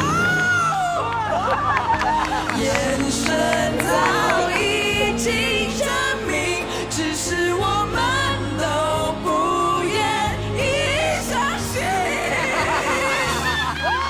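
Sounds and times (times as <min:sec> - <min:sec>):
band accompaniment: 0:00.0 - 0:14.0
person singing pop ballad: 0:00.0 - 0:14.0.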